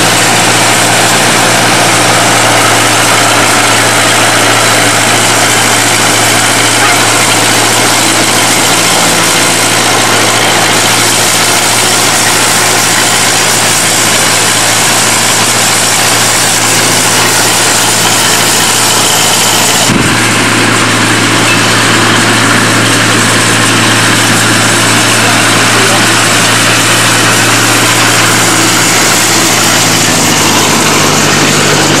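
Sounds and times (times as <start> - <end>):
diesel locomotive running: 0.0 - 32.0.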